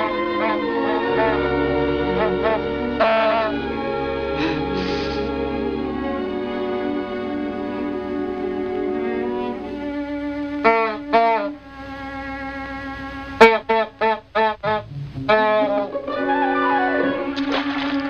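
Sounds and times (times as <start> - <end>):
orchestral strings holding slow notes: 0.0 - 13.4, 14.2 - 18.0.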